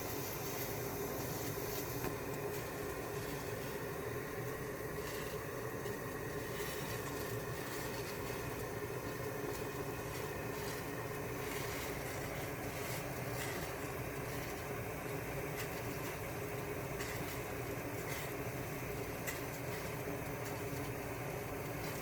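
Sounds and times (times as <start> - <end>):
stove hum and hiss: 0.0 - 22.0.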